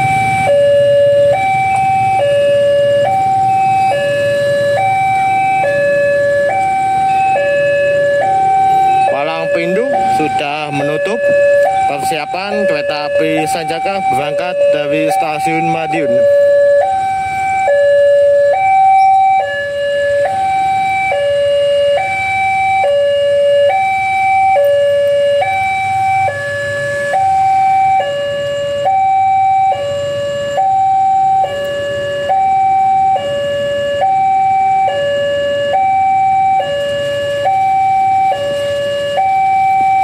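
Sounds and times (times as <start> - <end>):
level crossing two-tone alarm: 0.0 - 40.0.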